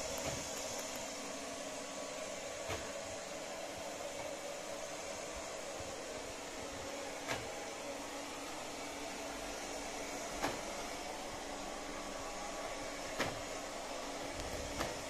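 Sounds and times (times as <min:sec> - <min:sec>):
robot vacuum cleaner whirring: 0:00.0 - 0:15.0.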